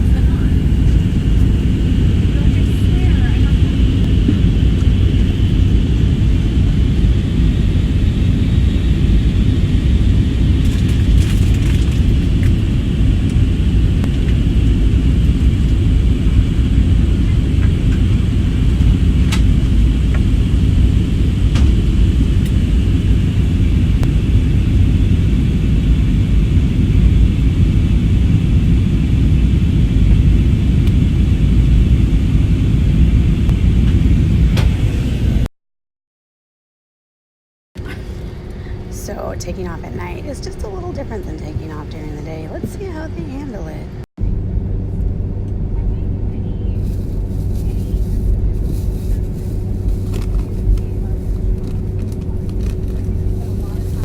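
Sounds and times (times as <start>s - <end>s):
airplane engines rumbling: 0.0s - 35.5s, 37.8s - 54.0s.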